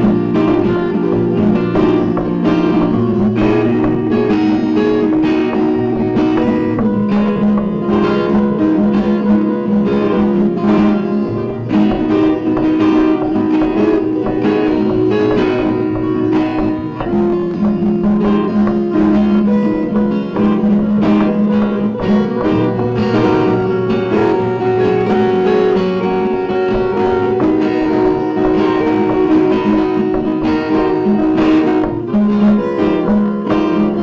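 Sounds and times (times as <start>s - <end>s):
acoustic guitar melody: 0.0s - 34.0s.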